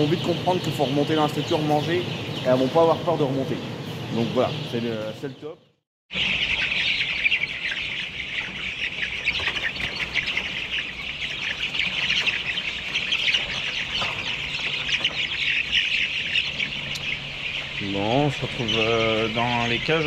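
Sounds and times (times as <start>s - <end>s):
chicks cheeping: 0.0s - 20.0s.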